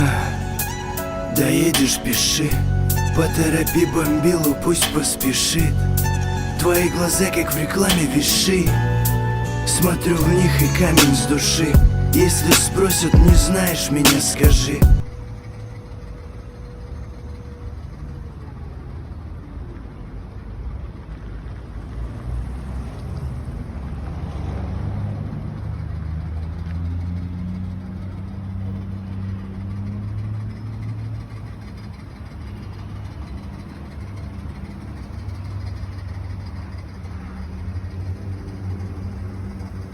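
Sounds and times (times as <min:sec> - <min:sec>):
car engine revving: 0:00.0 - 0:17.8, 0:22.2 - 0:39.9.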